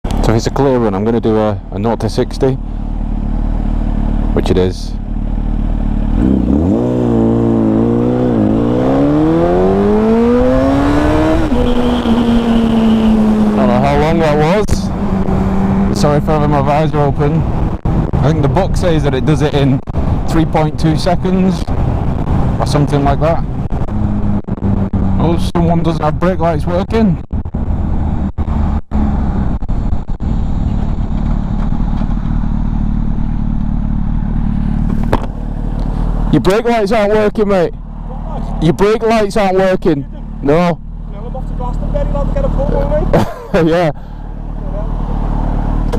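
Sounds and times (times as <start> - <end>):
motorcycle engine accelerating: 0.1 - 45.9.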